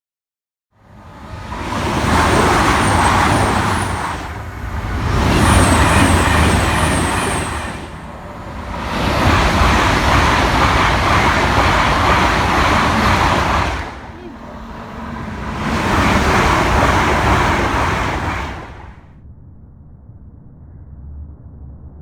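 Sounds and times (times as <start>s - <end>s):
passenger train passing: 0.8s - 19.1s.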